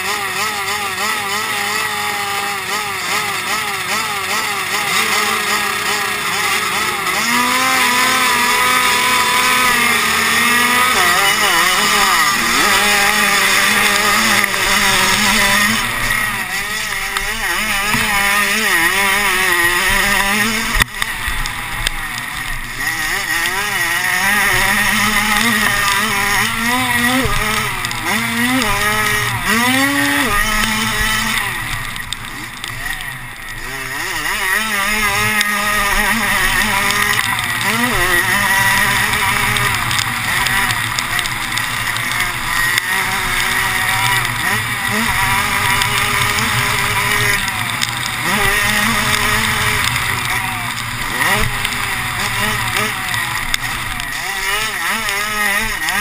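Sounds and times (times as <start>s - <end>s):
racing engines revving: 0.0s - 56.0s.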